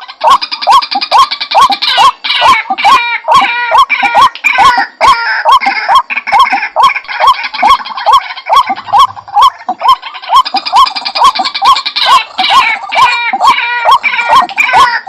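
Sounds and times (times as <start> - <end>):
bird calling with harsh rasping notes: 0.0 - 15.0.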